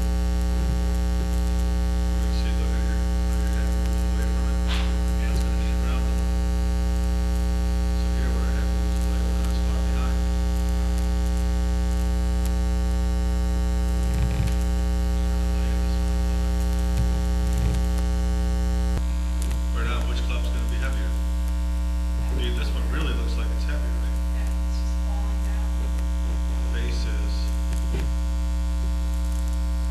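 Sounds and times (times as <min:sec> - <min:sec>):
electrical mains hum: 0:00.0 - 0:29.9.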